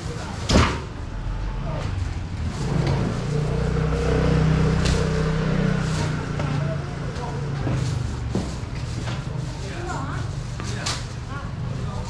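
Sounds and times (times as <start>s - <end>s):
vehicle engine humming: 1.0s - 12.0s.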